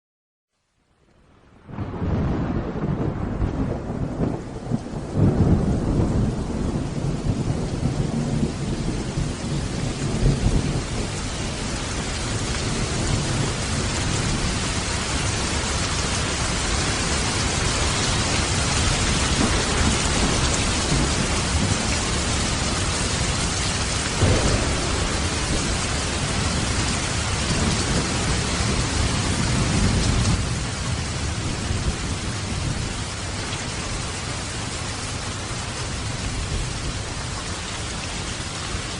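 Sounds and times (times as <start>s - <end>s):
steady rain: 0.5s - 38.9s
deep thunder rumbles: 1.6s - 38.1s.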